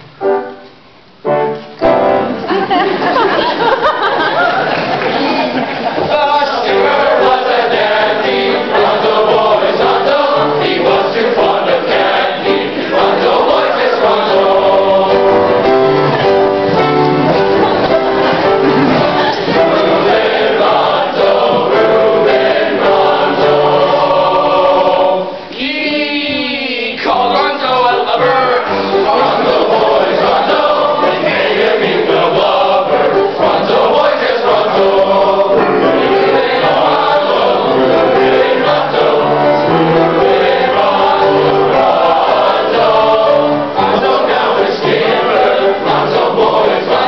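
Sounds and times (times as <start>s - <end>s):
boys' choir singing: 5.8s - 47.0s.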